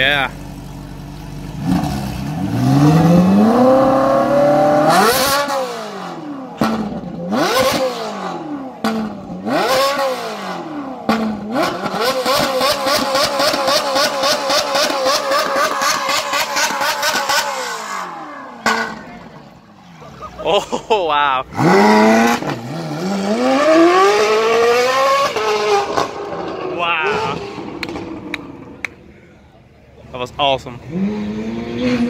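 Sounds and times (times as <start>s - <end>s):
sports car engine revving: 0.3s - 19.6s, 21.4s - 29.0s, 30.7s - 32.0s.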